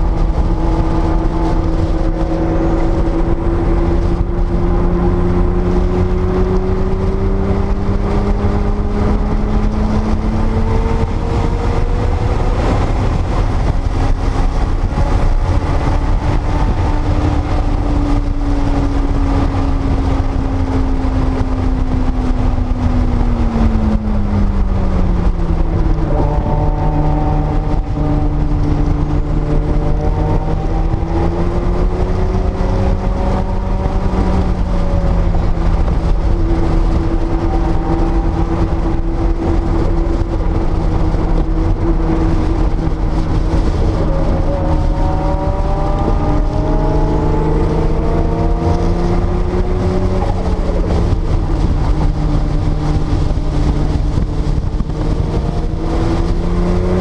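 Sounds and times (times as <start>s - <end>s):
car engine under load: 0.0s - 57.0s
wind and road noise: 0.0s - 57.0s.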